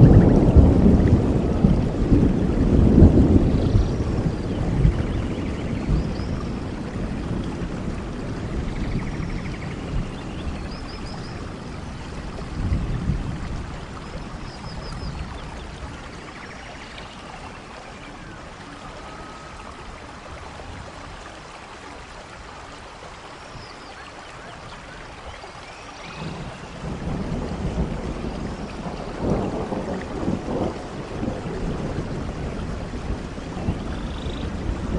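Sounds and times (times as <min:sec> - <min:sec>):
low rumbling thunder: 0:00.0 - 0:21.2, 0:26.0 - 0:34.9
steady rain: 0:00.0 - 0:34.9.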